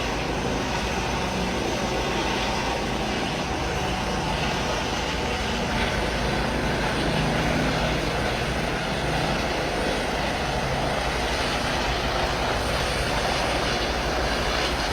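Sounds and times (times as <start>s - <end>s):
engine running steadily: 0.0s - 14.9s.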